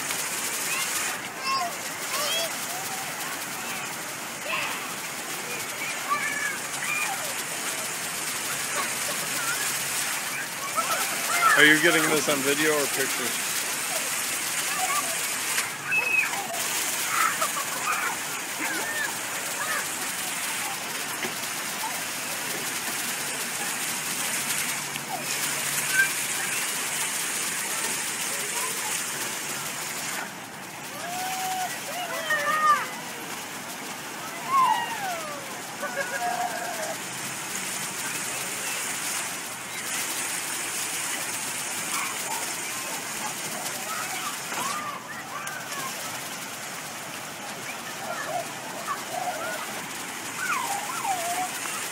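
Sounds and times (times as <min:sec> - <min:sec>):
fountain jets spraying on pavement: 0:00.0 - 0:51.9
children's voices: 0:00.4 - 0:51.9.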